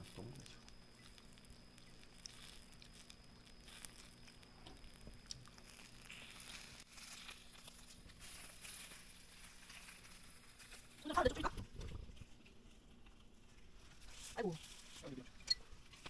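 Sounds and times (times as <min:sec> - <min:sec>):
batter crackling in hot pan: 0:00.0 - 0:16.0
low steady hum: 0:00.0 - 0:16.0.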